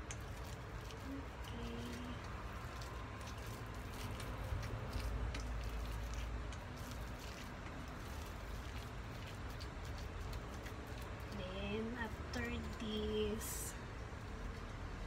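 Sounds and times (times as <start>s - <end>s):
spatula mixing meat in bowl: 0.0s - 13.6s.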